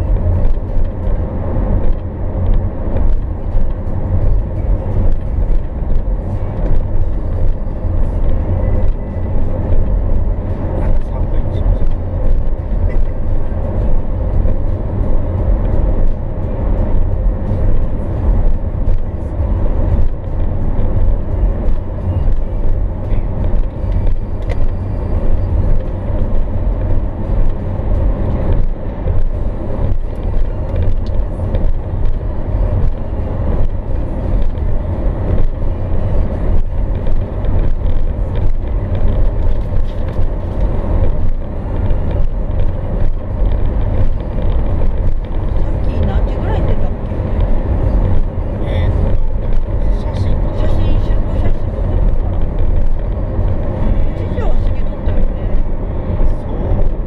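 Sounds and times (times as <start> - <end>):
car engine running: 0.0 - 57.0
tyres rumbling on road: 0.0 - 57.0.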